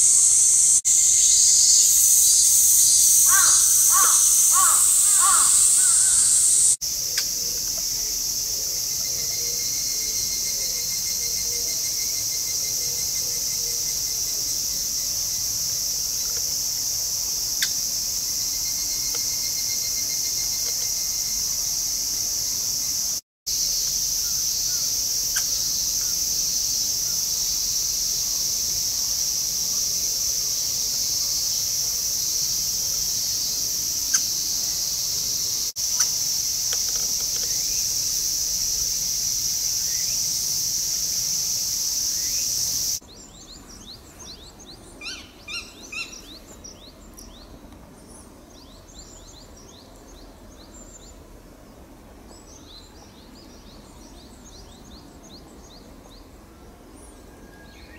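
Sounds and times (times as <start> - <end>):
insect chorus chirring: 0.0 - 47.4.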